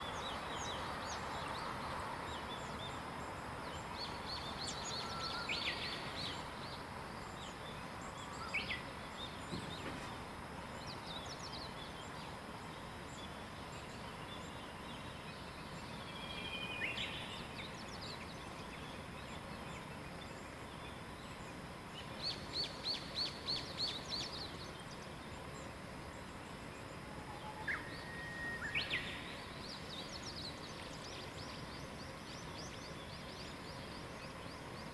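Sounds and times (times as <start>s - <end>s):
background hiss: 0.0s - 34.9s
songbirds calling and singing: 0.0s - 34.9s.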